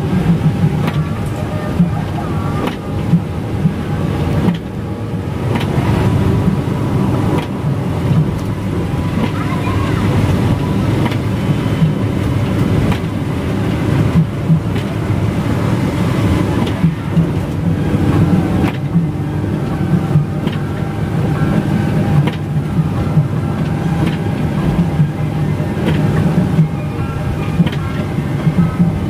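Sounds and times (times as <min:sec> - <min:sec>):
bus engine and road drone: 0:00.0 - 0:29.0.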